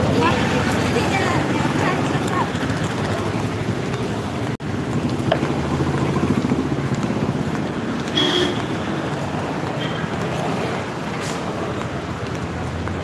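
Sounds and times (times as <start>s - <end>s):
market street hubbub: 0.0s - 13.0s
traffic noise: 0.0s - 13.0s.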